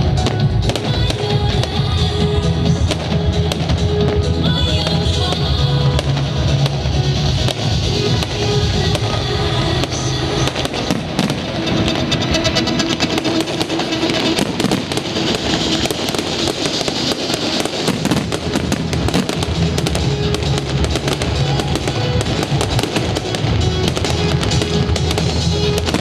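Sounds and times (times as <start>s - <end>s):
fireworks bursting and crackling: 0.0s - 26.0s
loud music with bass: 0.0s - 26.0s.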